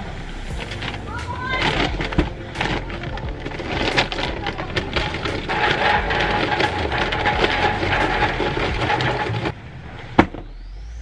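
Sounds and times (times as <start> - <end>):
charcoal rattling into metal grill: 0.5 - 9.5.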